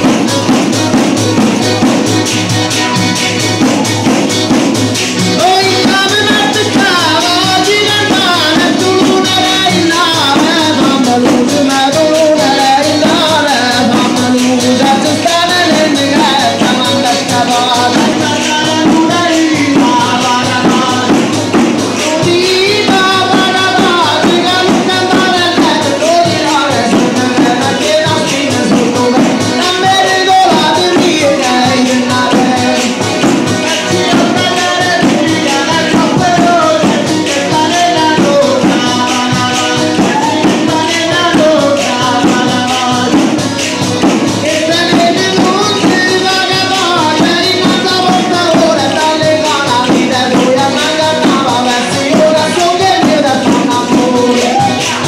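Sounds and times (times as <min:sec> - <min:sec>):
folk melody line: 0:00.0 - 0:55.0
tambourine beat: 0:00.0 - 0:55.0.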